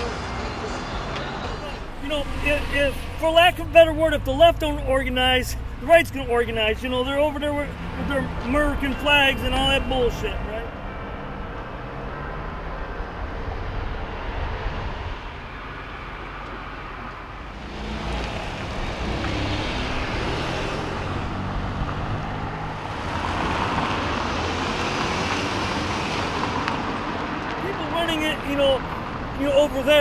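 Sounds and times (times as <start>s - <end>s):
cars passing: 0.0s - 30.0s.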